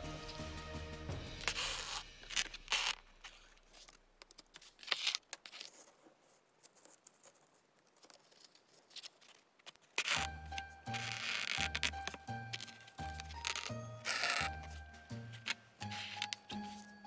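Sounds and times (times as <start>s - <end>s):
thread pulled through card: 1.4s - 16.9s
paper card rustling: 1.4s - 17.0s.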